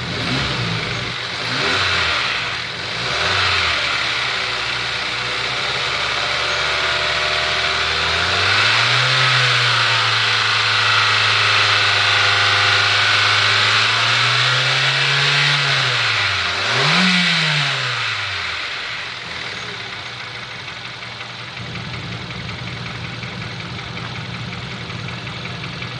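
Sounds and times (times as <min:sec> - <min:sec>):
car engine revving and idling: 0:00.0 - 0:25.9.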